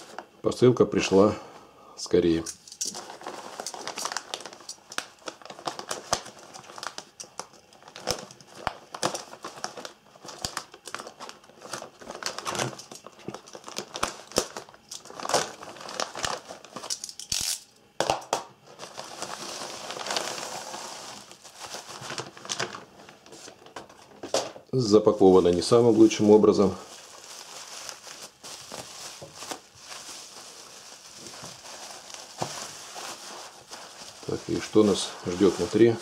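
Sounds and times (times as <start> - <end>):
plastic mailer crinkling: 2.3 - 17.2, 18.6 - 36.0
package rustling: 2.3 - 17.6, 18.6 - 36.0.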